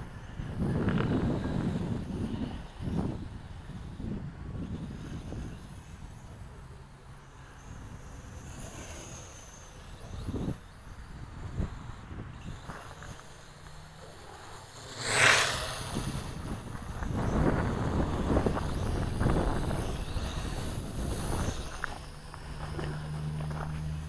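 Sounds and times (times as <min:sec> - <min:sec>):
wind buffeting microphone: 0:00.0 - 0:06.9, 0:07.6 - 0:24.0.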